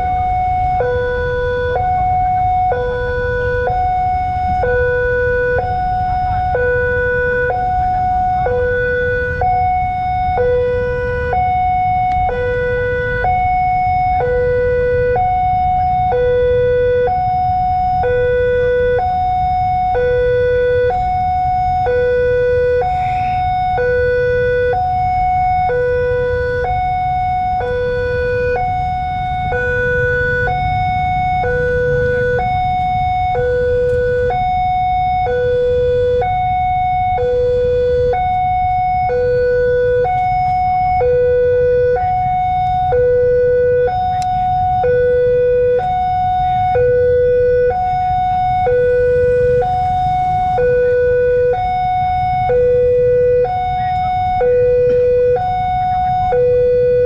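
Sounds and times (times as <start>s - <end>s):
low rumble of road traffic: 0.0s - 57.0s
two-tone level-crossing siren: 0.0s - 57.0s.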